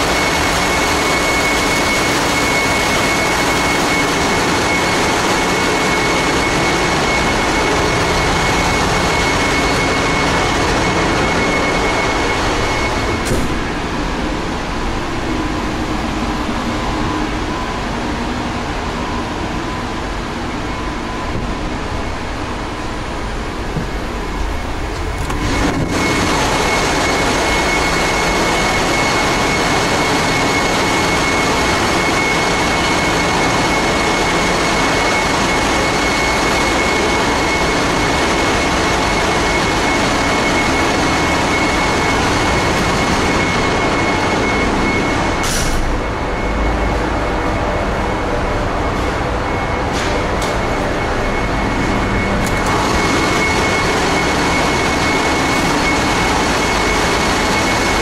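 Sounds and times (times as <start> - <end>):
engine room machinery din: 0.0 - 58.0
high machinery whine: 0.0 - 58.0.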